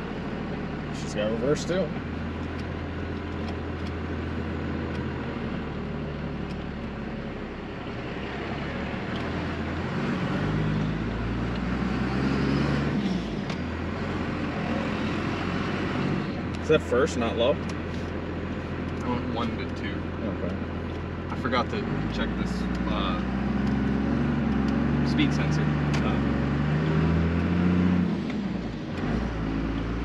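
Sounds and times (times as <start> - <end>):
diesel truck driving off: 0.0 - 30.0.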